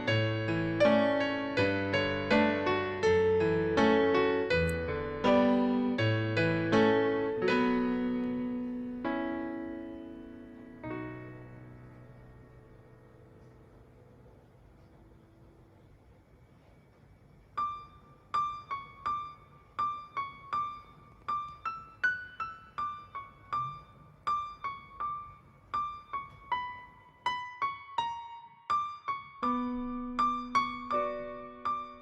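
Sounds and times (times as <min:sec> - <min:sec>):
electric piano melody: 0:00.0 - 0:15.2, 0:17.6 - 0:32.0.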